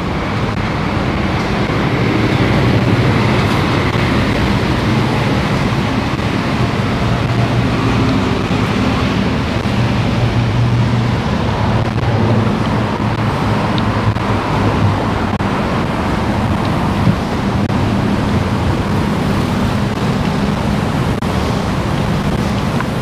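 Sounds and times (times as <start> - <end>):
low drone: 0.0 - 23.0
road traffic noise: 0.0 - 23.0.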